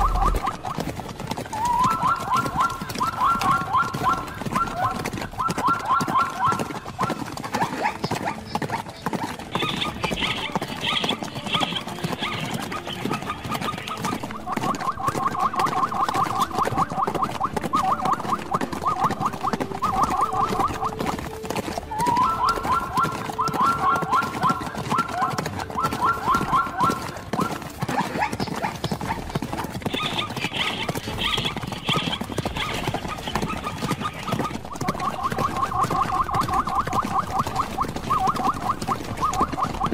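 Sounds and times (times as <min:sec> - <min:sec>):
hooves knocking and scuffing: 0:00.0 - 0:39.9.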